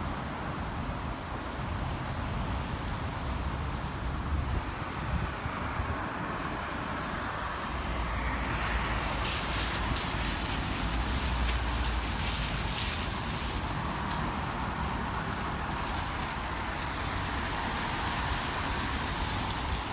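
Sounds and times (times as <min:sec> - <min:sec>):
wind and rain rushing: 0:00.0 - 0:19.9
wind rumble on microphone: 0:00.0 - 0:19.9.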